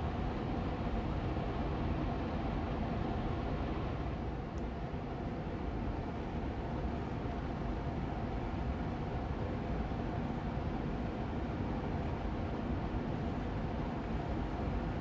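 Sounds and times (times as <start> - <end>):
air purifier fan running: 0.0 - 15.0.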